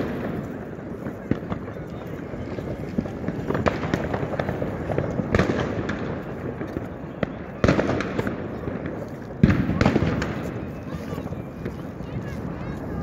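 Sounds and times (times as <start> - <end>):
loud firework bangs: 0.0 - 12.9
fireworks crackling: 0.0 - 13.0.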